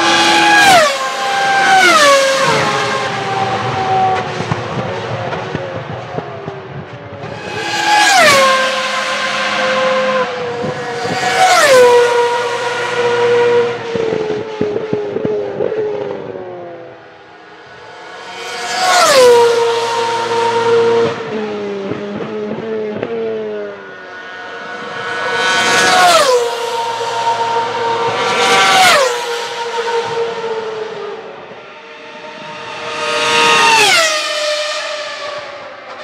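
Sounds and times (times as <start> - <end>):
racing car engines screaming past: 0.0 - 5.6, 7.2 - 14.8, 17.6 - 22.0, 23.5 - 36.0.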